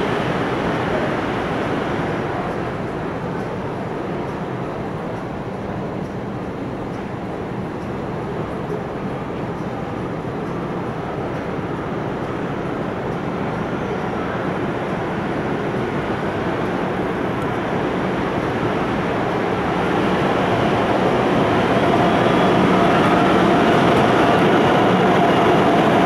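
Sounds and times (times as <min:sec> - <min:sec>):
train rumbling through tunnel: 0:00.0 - 0:26.0.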